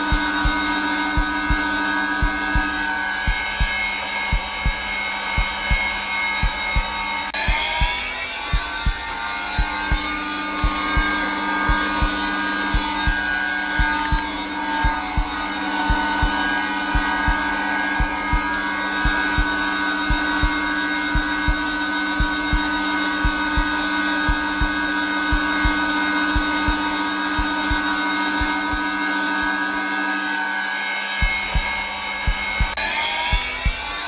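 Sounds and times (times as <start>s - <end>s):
heartbeat thumps: 0.0s - 29.7s, 31.2s - 34.0s
vacuum cleaner droning hum: 0.0s - 34.0s.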